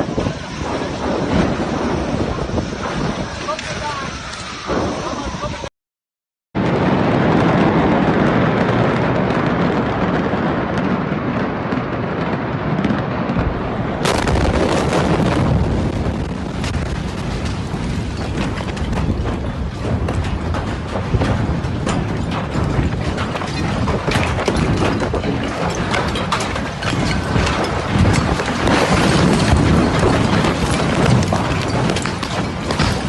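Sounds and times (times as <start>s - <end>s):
dense crackling and popping: 0.0s - 5.7s, 6.6s - 33.0s
explosion and fire roaring: 0.0s - 5.7s, 6.6s - 33.0s.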